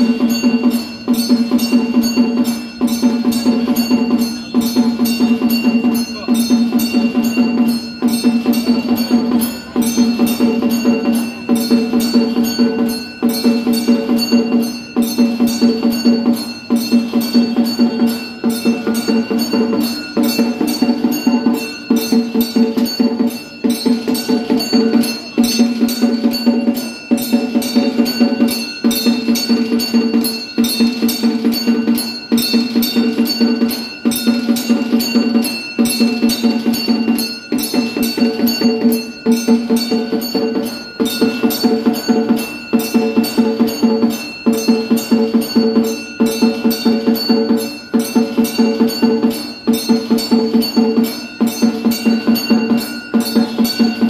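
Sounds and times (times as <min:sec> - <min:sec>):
temple bell rung rapidly: 0:00.0 - 0:54.0.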